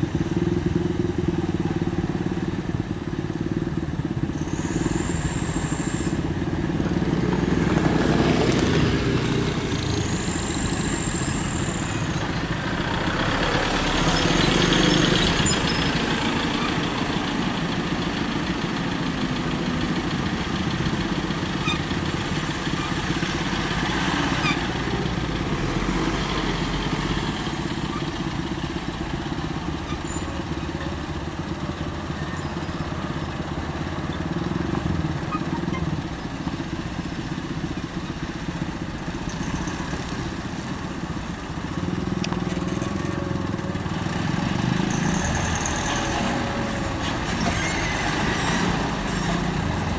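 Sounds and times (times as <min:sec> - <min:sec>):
truck engines passing: 0:00.0 - 0:49.9.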